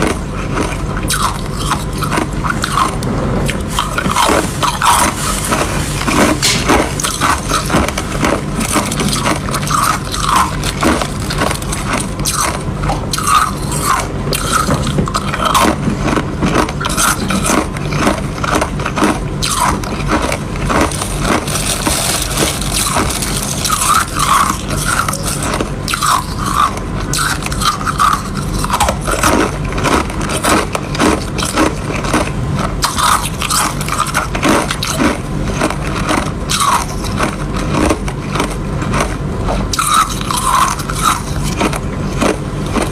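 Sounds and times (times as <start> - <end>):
ice being chewed: 0.0 - 42.9.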